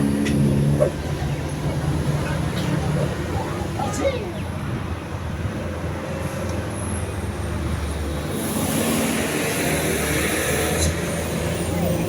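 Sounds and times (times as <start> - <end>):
bus engine hum: 0.0 - 12.0
tyre and road noise: 0.0 - 12.0.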